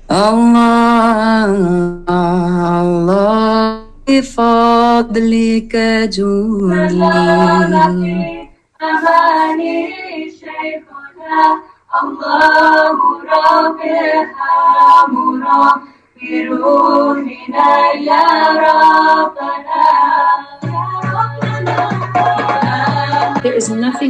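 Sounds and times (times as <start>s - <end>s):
women singing devotional song: 0.1s - 24.0s.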